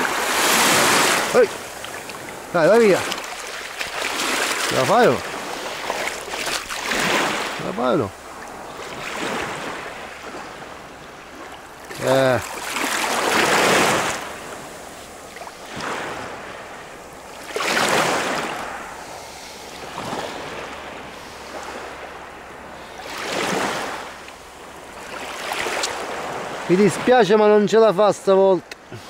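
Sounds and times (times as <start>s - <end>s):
waves breaking on pebbly beach: 0.0s - 27.5s.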